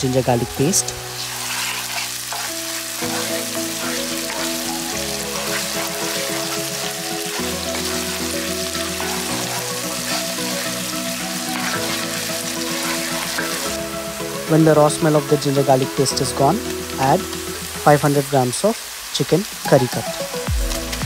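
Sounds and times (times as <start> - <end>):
onions frying in oil sizzling: 0.0 - 21.0.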